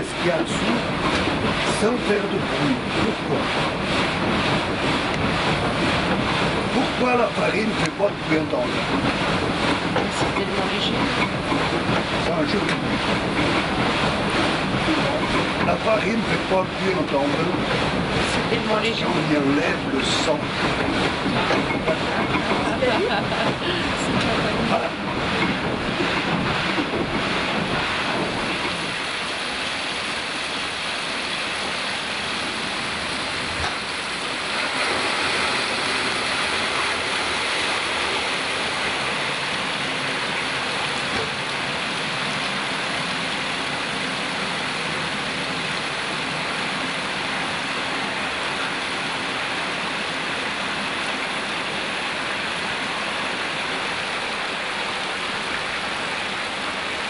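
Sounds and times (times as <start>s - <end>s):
low rumble of mill machinery: 0.0s - 57.0s
water rushing through a flume: 0.0s - 57.0s.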